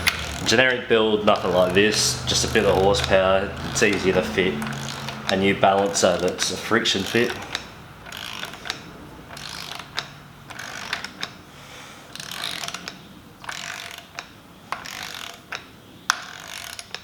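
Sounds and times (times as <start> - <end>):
ratchet wrench clicking: 0.0 - 11.4, 12.1 - 17.0.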